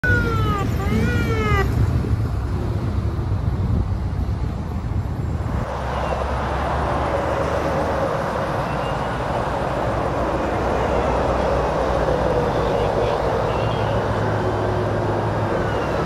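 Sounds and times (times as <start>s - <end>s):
freeway traffic passing: 0.0s - 16.0s
vehicle road rumble: 0.0s - 16.0s.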